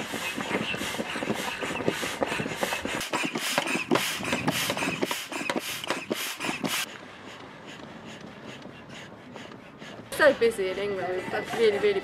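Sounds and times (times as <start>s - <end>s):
air pump whooshing strokes: 0.0s - 12.0s.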